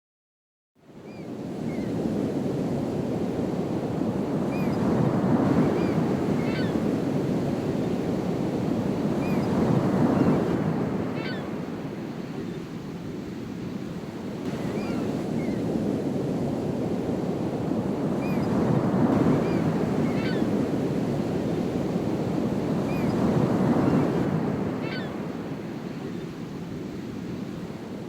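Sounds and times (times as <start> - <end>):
ocean surf breaking: 2.3 - 27.2.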